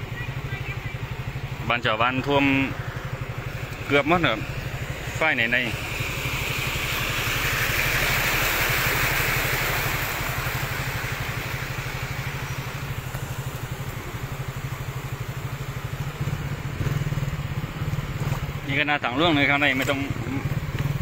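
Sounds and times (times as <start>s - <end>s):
vehicle splashing through floodwater: 0.0s - 21.0s.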